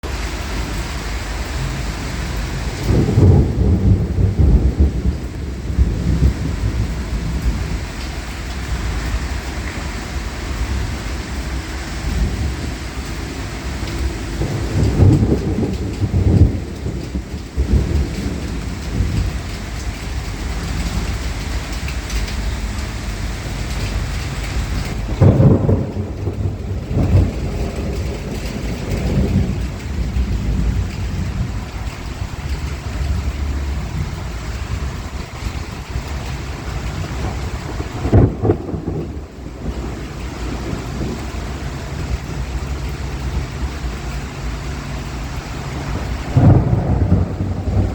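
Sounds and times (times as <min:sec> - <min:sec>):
heavy rain: 0:00.0 - 0:47.9
rolling thunder: 0:00.0 - 0:47.9
strong wind: 0:00.0 - 0:47.9.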